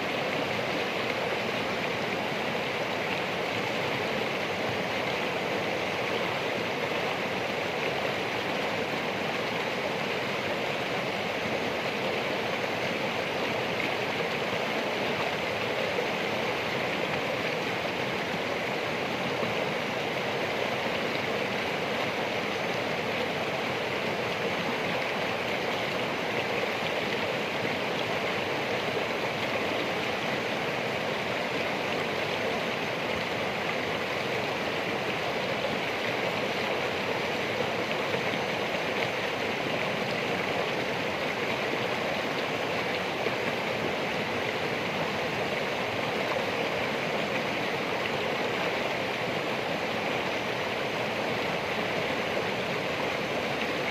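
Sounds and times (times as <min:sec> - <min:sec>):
stream water rushing: 0:00.0 - 0:53.9.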